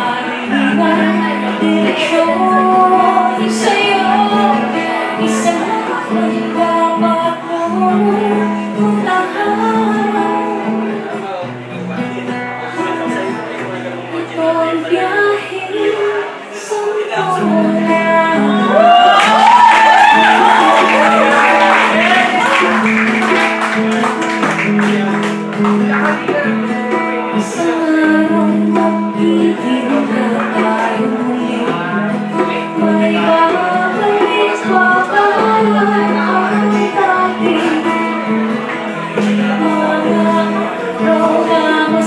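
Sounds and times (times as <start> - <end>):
woman singing: 0.0 - 10.9, 14.1 - 22.9, 27.2 - 42.0
acoustic guitar: 0.0 - 42.0.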